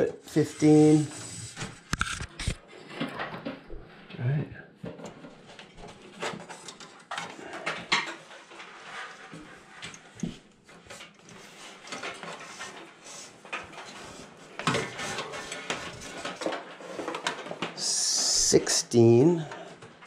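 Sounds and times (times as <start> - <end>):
cables rustling: 0.0 - 20.0.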